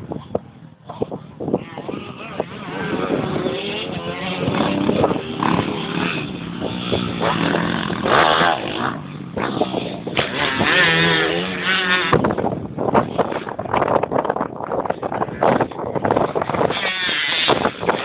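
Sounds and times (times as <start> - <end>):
motocross bike engine revving: 0.3 - 14.2, 15.0 - 18.0.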